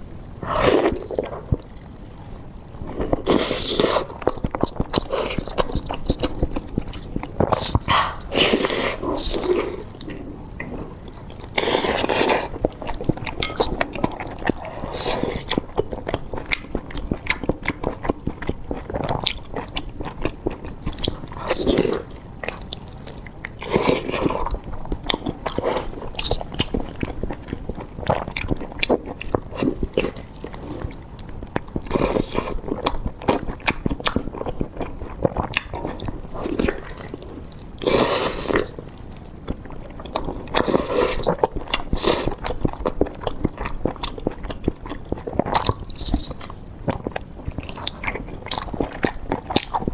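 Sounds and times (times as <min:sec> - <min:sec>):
wet chewing and biting: 0:02.9 - 0:49.9.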